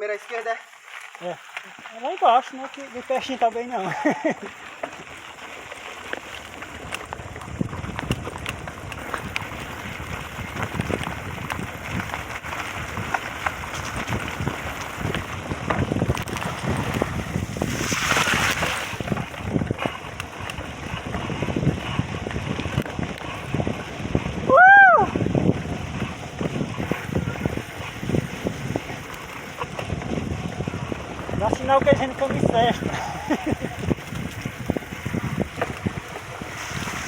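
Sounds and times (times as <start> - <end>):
wind buffeting microphone: 3.1 - 37.0.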